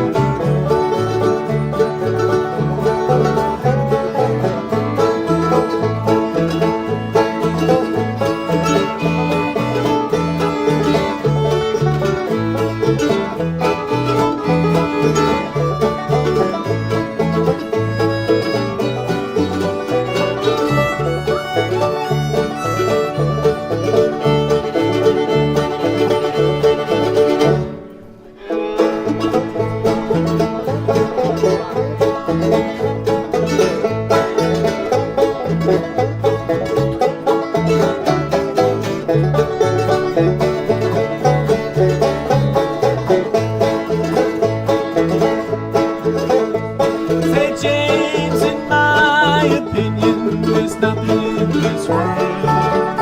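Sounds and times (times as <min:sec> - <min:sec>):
acoustic string band playing: 0:00.0 - 0:53.0.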